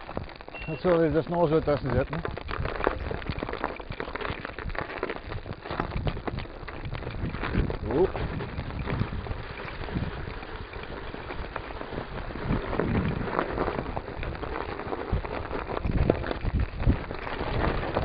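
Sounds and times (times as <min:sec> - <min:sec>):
bike knocks and rattles: 0:00.0 - 0:18.0
tyres and wind rushing: 0:00.0 - 0:18.0.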